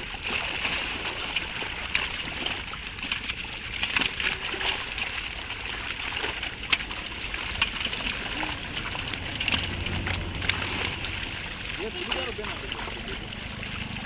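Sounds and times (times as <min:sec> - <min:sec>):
fish splashing in water: 0:00.0 - 0:14.0.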